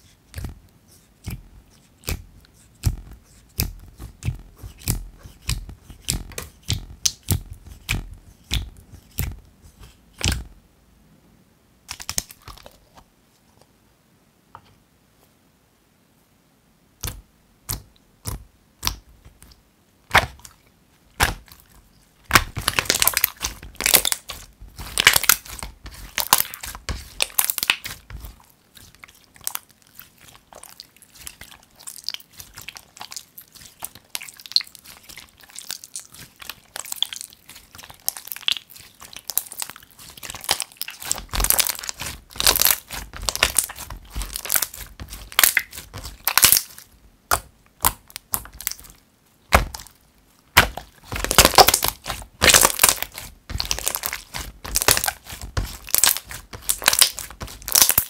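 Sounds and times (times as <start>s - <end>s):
slime squishing and popping: 1.2s - 9.4s, 10.2s - 10.5s, 11.9s - 12.8s, 17.0s - 20.6s, 21.2s - 58.0s.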